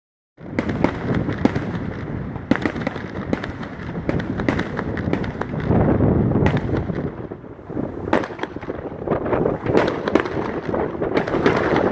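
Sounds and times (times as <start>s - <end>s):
firework crackles: 0.4s - 11.9s
fireworks bursting with bangs: 0.4s - 11.9s.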